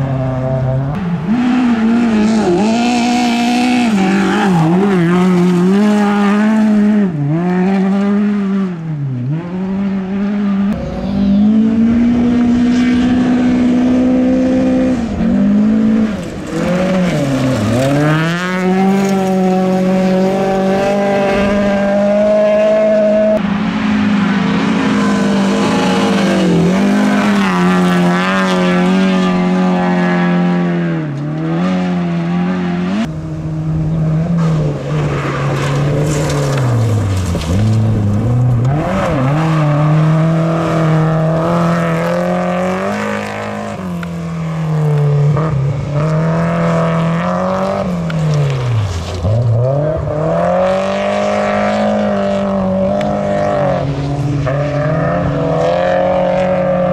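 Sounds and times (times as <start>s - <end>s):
rally car engines at high revs: 0.0s - 56.9s.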